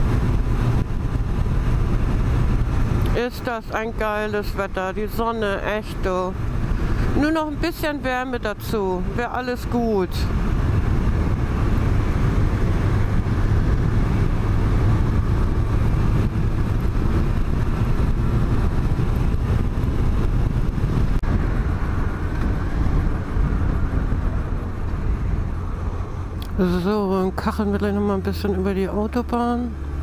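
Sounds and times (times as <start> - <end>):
wind rush on microphone: 0.0 - 26.5
motorcycle engine drone: 0.0 - 30.0.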